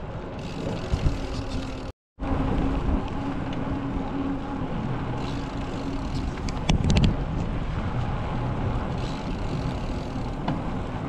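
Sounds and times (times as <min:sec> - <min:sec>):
low road rumble: 0:00.0 - 0:11.0
wind rushing over microphone: 0:00.0 - 0:11.0.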